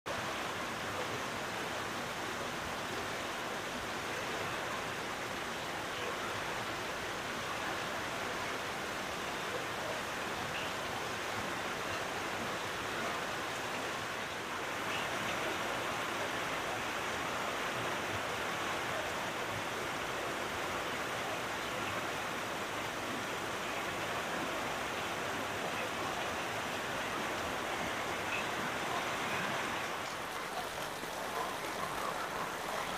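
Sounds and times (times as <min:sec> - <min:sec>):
heavy rain hissing: 0:00.1 - 0:32.9
water streaming off roof: 0:00.1 - 0:32.9.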